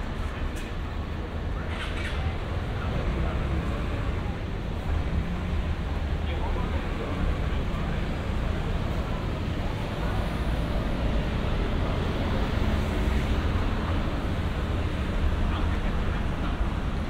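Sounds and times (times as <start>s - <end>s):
low rumble of cars: 0.0s - 17.0s.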